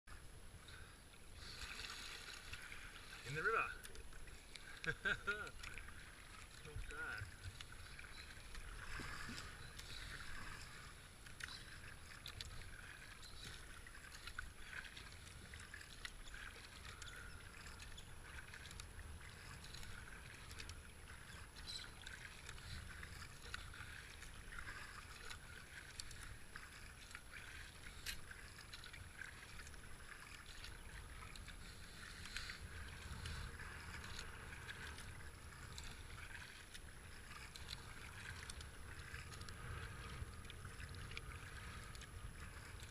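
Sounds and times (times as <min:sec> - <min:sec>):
kayak paddle strokes in water: 0:00.1 - 0:42.9
small splashes and ticks: 0:00.1 - 0:42.9
water running off paddle blades: 0:00.1 - 0:42.9.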